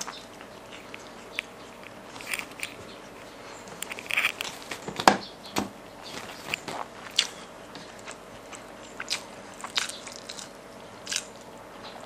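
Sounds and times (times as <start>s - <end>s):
chewing crispy food: 0.0s - 4.8s, 6.0s - 12.0s.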